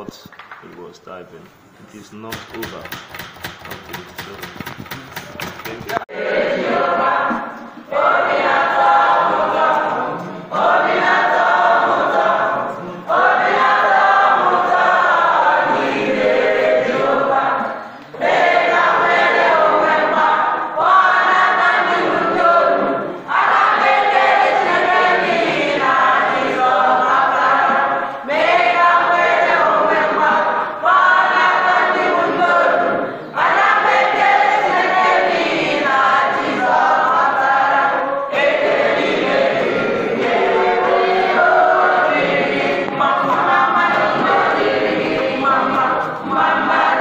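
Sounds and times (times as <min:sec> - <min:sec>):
choir of young voices singing: 0:05.9 - 0:47.0.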